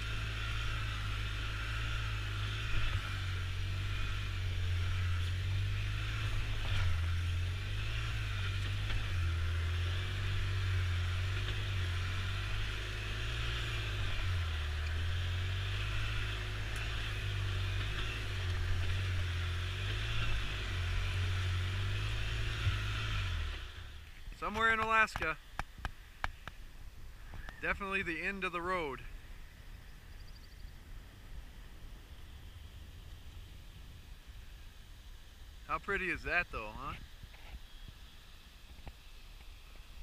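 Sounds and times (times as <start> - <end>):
vehicle engine drone: 0.0 - 40.0.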